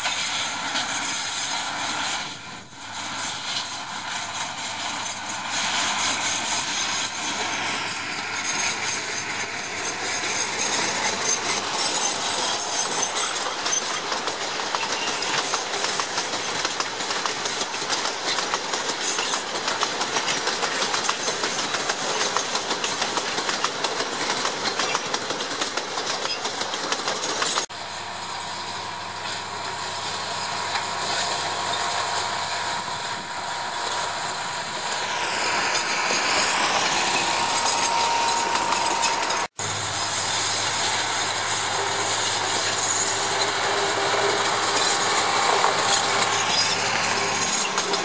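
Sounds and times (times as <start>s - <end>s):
locomotive engine hum: 0.0s - 48.0s
wagons clattering over rails: 3.4s - 27.7s, 28.4s - 48.0s.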